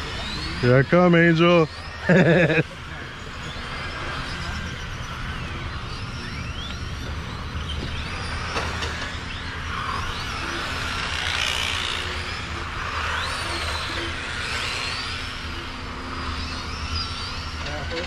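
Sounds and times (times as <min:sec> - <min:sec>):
electric motors and gears whining: 0:00.0 - 0:18.0.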